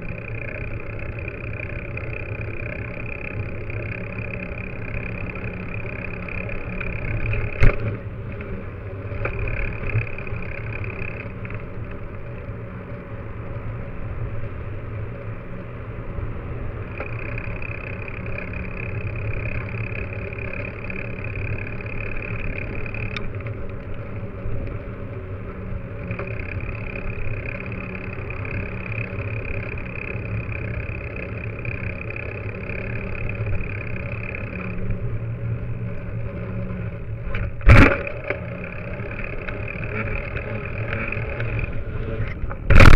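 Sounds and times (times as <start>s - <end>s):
bike tyre and road rumble: 0.0s - 42.9s
higher whir: 0.0s - 42.9s.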